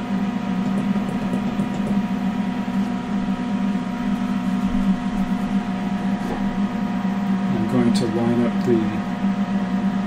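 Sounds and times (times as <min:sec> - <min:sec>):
faint steady whines: 0:00.0 - 0:10.0
laser cutter machine hum: 0:00.0 - 0:10.0.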